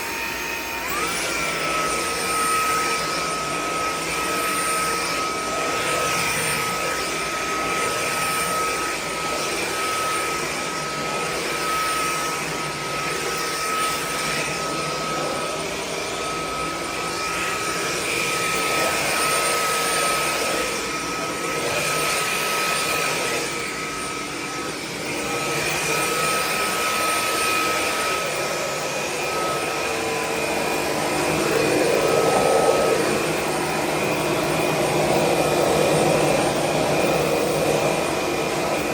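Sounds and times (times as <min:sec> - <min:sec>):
stick vacuum motor whine: 0:00.0 - 0:38.9.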